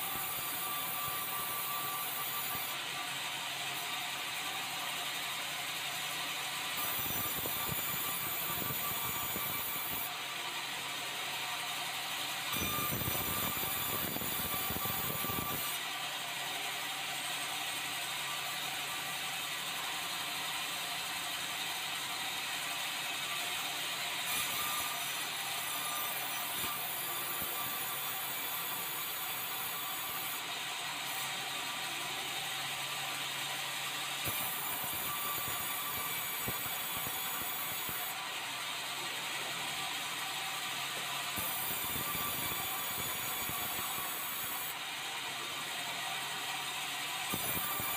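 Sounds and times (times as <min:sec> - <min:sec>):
band saw cutting boards: 0:00.0 - 0:10.3, 0:11.2 - 0:20.0, 0:23.0 - 0:47.9.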